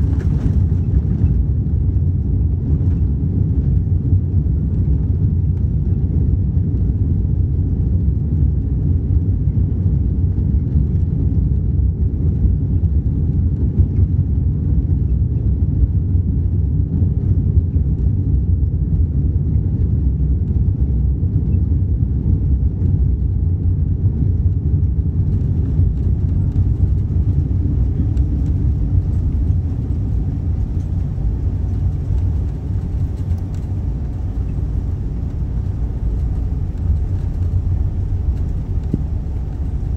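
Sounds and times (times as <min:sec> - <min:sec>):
aircraft cabin rumble on runway: 0:00.0 - 0:39.9.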